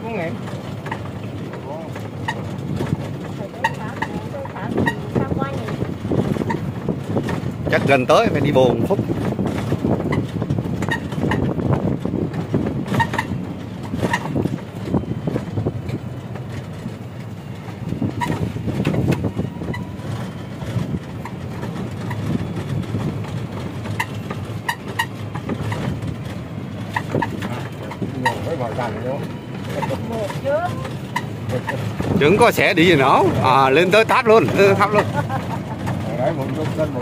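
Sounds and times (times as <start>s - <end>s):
cart frame rattling and squeaking: 0.0s - 37.0s
tyres rumbling on road: 0.0s - 37.0s.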